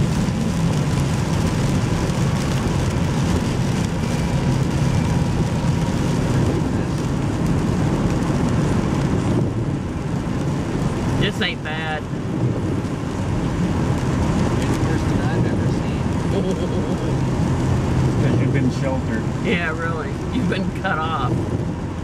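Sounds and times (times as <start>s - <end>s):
rain on a car: 0.0s - 22.0s
tyres on a wet road: 0.0s - 22.0s.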